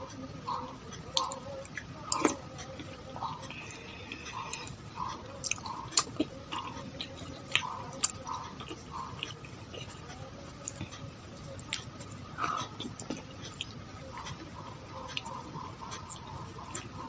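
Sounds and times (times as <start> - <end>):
close chewing and mouth sounds: 0.0 - 17.0.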